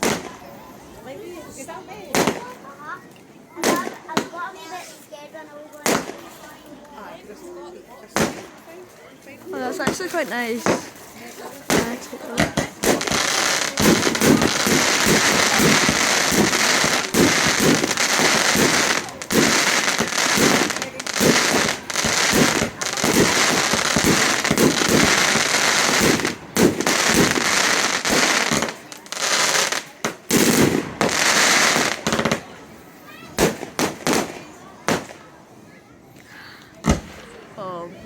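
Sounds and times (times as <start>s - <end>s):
fireworks crackling and bursting: 0.0s - 5.1s, 5.8s - 35.3s, 36.8s - 38.0s.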